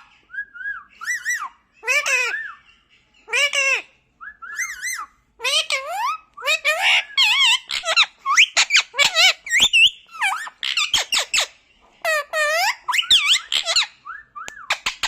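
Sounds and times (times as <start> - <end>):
parrot squeaky warbling calls: 0.0 - 15.0.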